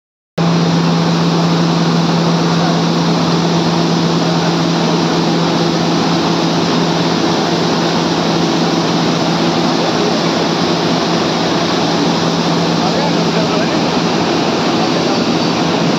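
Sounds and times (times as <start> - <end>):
low motor hum: 0.4 - 15.9
machinery rushing noise: 0.4 - 15.9.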